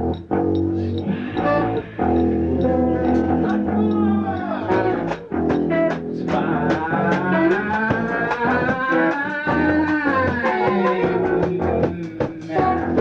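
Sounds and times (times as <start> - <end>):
bass guitar: 0.0 - 13.0
electric guitar: 0.0 - 13.0
sharp drum beats: 0.0 - 13.0.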